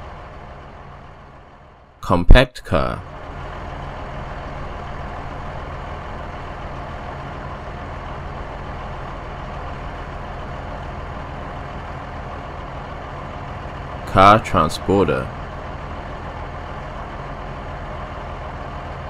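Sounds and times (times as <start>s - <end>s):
car engine running: 2.7s - 19.0s.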